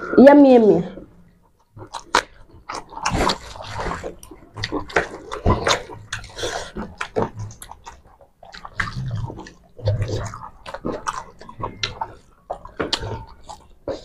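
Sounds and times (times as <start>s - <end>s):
wet chewing and mouth smacks: 1.2s - 14.0s.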